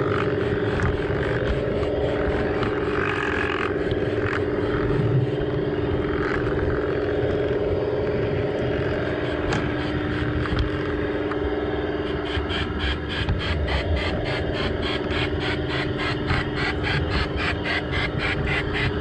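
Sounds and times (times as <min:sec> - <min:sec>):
model train motor humming: 0:00.0 - 0:19.0
wheels rumbling on rails: 0:00.0 - 0:19.0.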